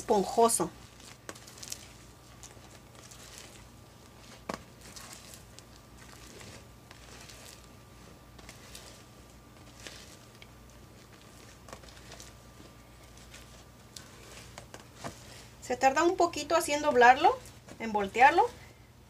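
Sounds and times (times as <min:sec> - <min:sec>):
spatula scraping and squishing batter: 0:00.0 - 0:18.5.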